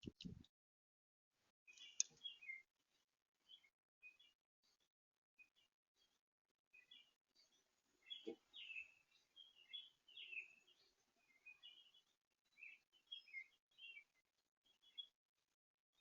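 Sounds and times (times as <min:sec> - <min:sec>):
small birds chirping: 0:01.7 - 0:15.2.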